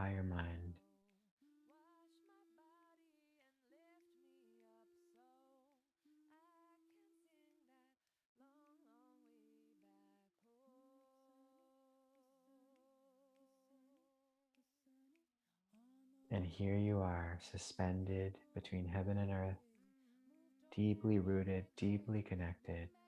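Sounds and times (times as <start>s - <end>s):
person singing slow melody: 0.0s - 14.1s, 15.7s - 23.0s.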